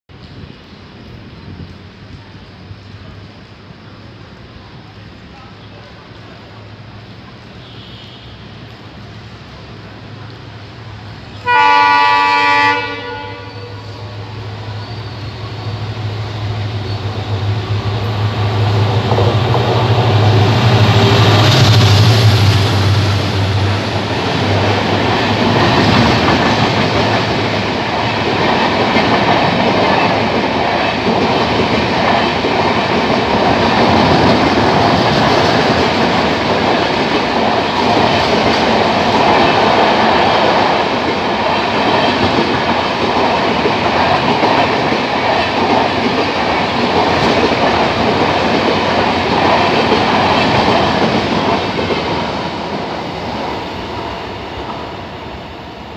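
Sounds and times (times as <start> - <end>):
train coaches clattering on track: 0.1 - 55.9.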